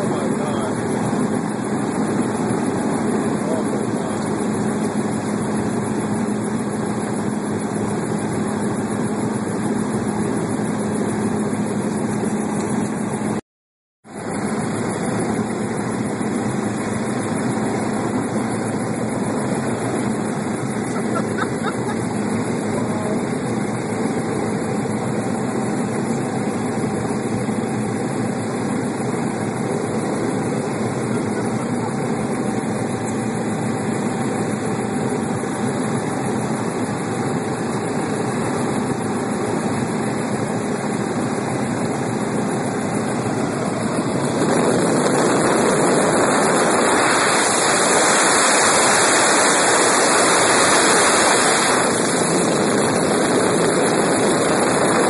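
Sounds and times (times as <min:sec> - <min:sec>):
helicopter drone from inside cabin: 0:00.0 - 0:13.4, 0:14.0 - 0:55.0.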